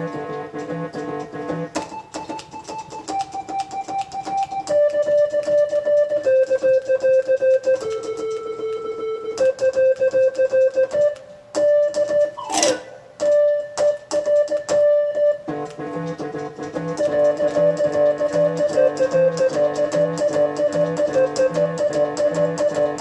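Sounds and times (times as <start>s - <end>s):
rock and roll piano: 0.0s - 23.0s.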